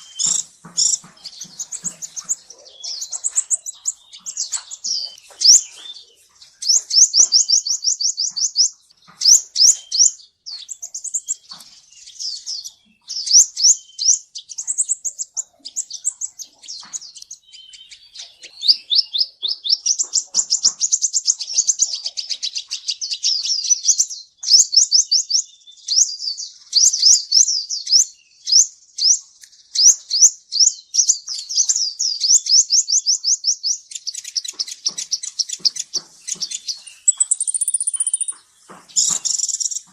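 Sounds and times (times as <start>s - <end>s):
sunbird high-pitched trills: 0.0s - 39.9s.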